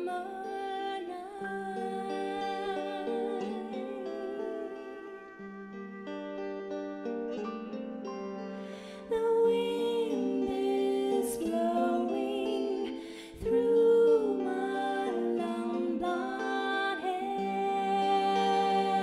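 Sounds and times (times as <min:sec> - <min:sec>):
woman singing a ballad: 0:00.0 - 0:06.2, 0:08.6 - 0:19.0.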